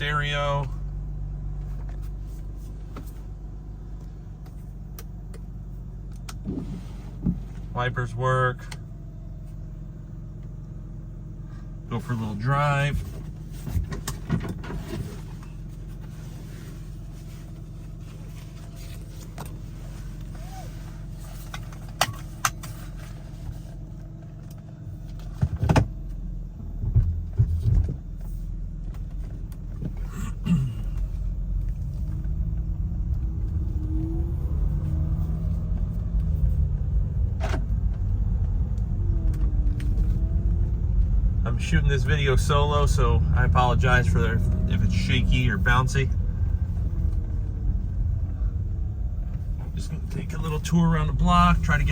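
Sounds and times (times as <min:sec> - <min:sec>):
car driving slowly: 0:00.0 - 0:51.9
car engine idling: 0:00.0 - 0:51.9
road noise: 0:00.0 - 0:51.9.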